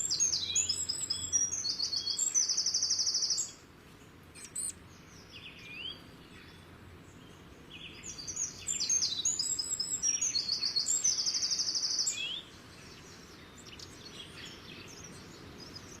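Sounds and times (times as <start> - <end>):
background hiss: 0.0 - 16.0
birds chirping and singing: 0.0 - 16.0.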